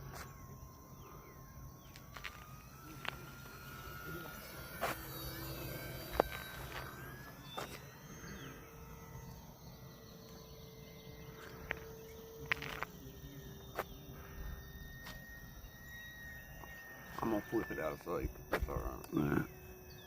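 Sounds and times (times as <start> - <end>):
distant model airplane motor humming: 0.0 - 20.0
insects chirping: 0.0 - 20.0.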